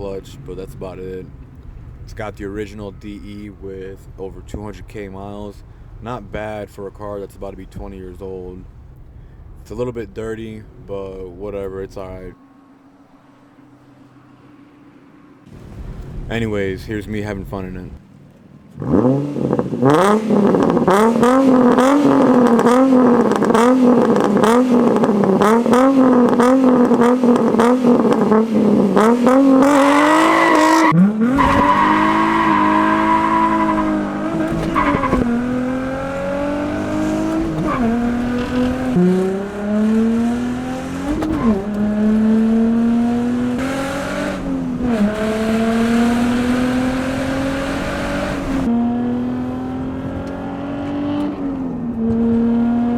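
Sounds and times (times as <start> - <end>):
car engine revving: 0.0 - 52.9
exhaust crackles: 0.0 - 52.9.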